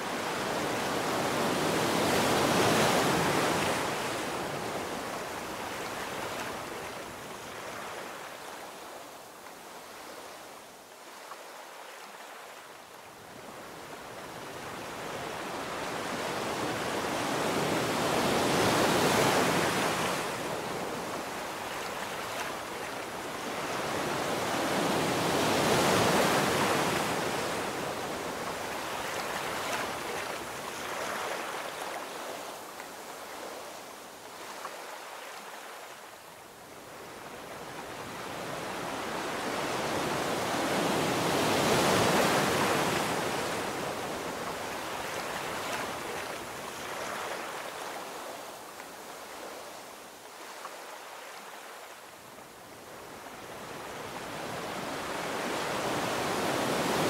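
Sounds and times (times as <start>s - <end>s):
ocean surf on beach: 0.0s - 57.0s.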